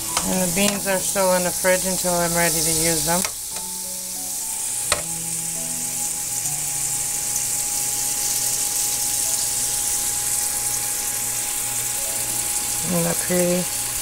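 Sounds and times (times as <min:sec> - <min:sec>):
onions sizzling in a frying pan: 0:00.0 - 0:14.0.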